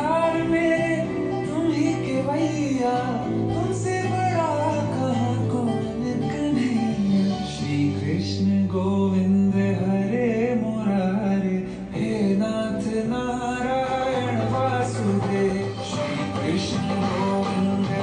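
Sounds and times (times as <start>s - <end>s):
devotional song with accompaniment: 0.0s - 18.0s.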